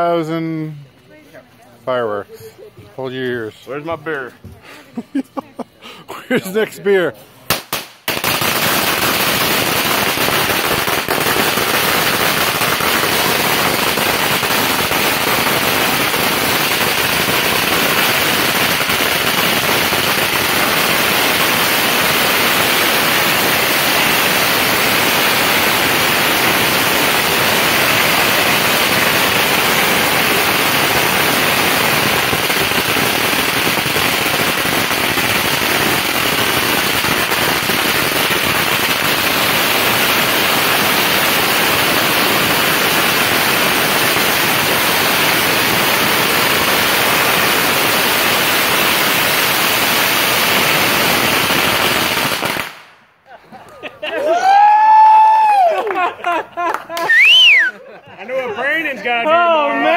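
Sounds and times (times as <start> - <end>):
firecrackers crackling: 3.0 - 53.3, 54.4 - 57.8.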